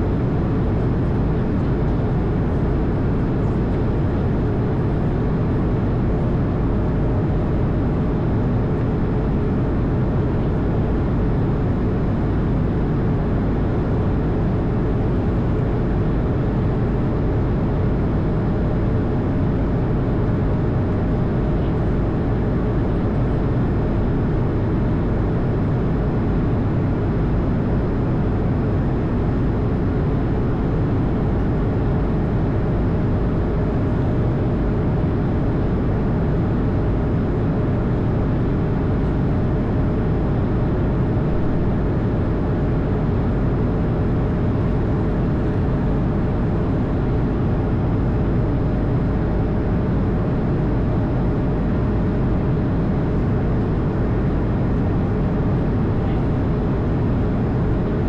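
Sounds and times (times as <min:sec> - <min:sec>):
airliner cabin engine drone: 0:00.0 - 0:58.0
faint steady hum: 0:00.0 - 0:58.0.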